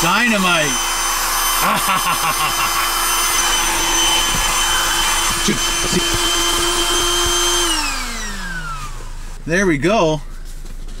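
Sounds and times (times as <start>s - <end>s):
electric air pump humming: 0.0s - 9.4s.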